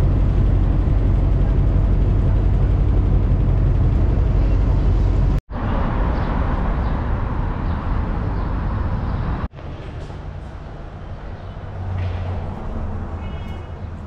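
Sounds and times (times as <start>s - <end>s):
low street hum: 0.0s - 14.0s
traffic noise: 0.0s - 14.0s.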